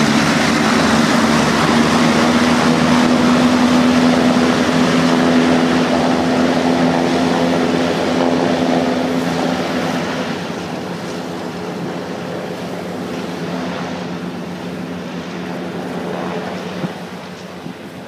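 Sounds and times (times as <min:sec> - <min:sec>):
hovercraft engine hum: 0:00.0 - 0:18.0.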